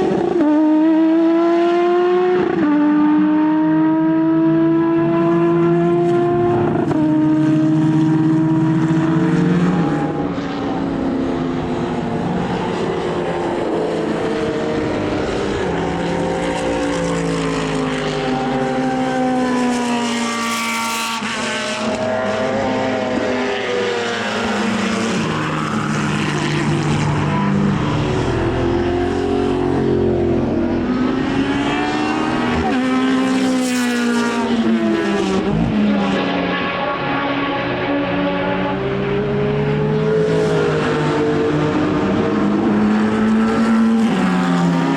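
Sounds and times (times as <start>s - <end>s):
racing car engines: 0.0s - 44.9s.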